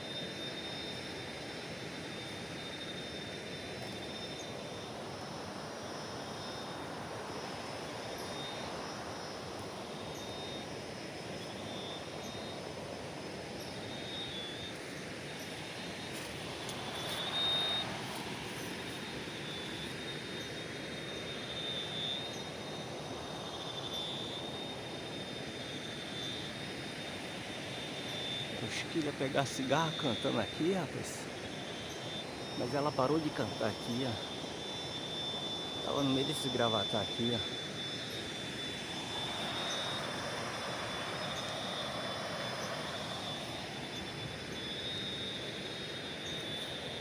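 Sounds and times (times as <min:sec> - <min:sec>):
high insect-like drone: 0:00.0 - 0:47.0
faint chirps: 0:01.9 - 0:47.0.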